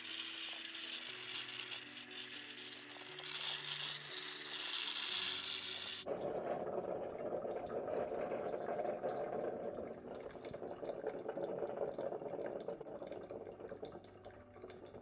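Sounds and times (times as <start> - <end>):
coffee maker hissing and sputtering: 0.0 - 15.0
low bubbling: 1.0 - 15.0.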